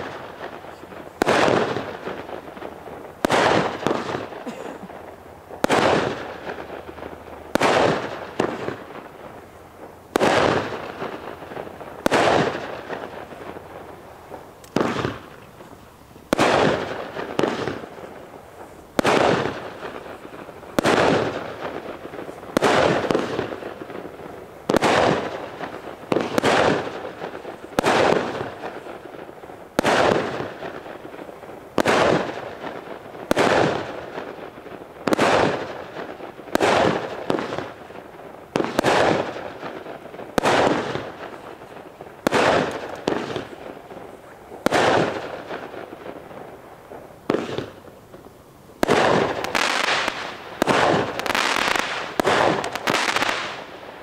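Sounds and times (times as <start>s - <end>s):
firework bangs echoing: 0.0s - 54.0s.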